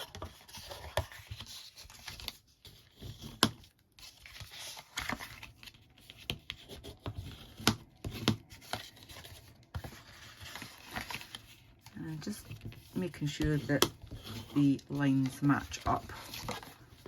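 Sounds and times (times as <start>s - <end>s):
bone folder scraping card: 0.0s - 17.0s.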